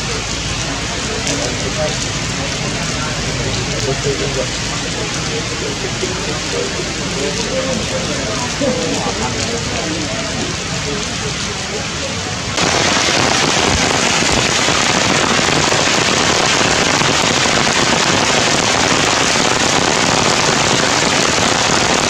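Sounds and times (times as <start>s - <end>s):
heavy rain on forest canopy: 0.0s - 22.0s.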